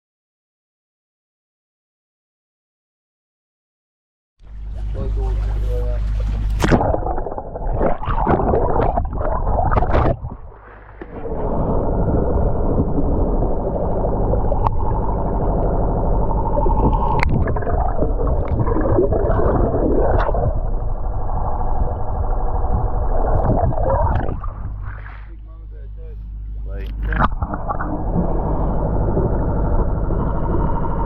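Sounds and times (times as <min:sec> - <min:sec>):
low motor drone: 0:04.4 - 0:31.0.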